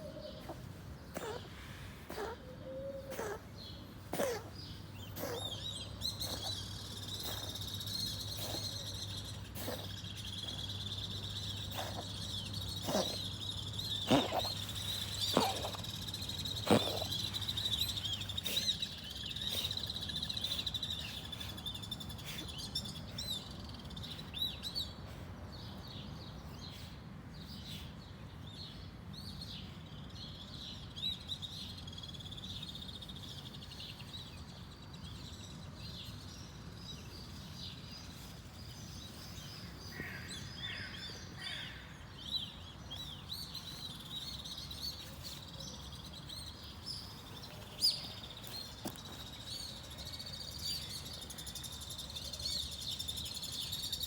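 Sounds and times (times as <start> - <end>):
birds chirping and twittering: 0.0 - 54.0.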